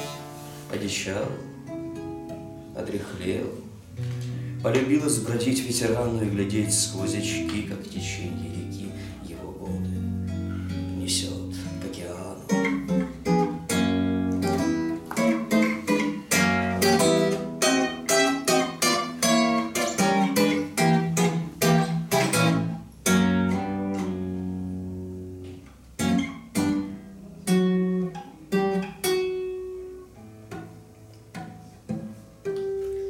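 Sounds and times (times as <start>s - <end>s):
fingerstyle acoustic guitar: 0.0s - 33.0s.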